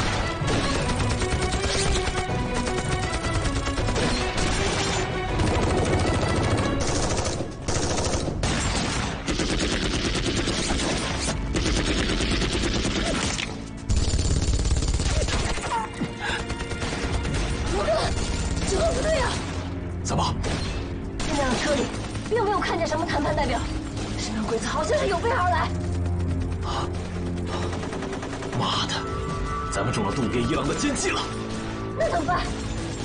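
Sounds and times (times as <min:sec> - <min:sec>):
rapid gunfire: 0:00.0 - 0:19.6, 0:20.4 - 0:28.9
background music: 0:00.0 - 0:33.0.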